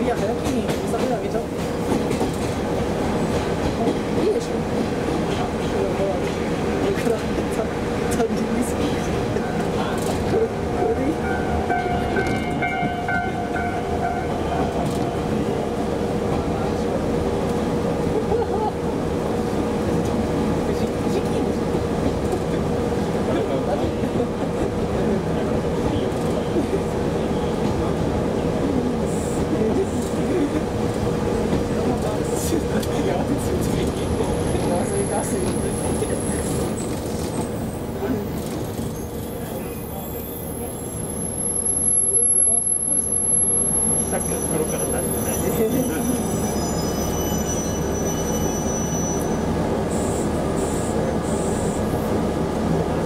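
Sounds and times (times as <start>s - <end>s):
wheels rumbling on rails: 0.0s - 53.0s.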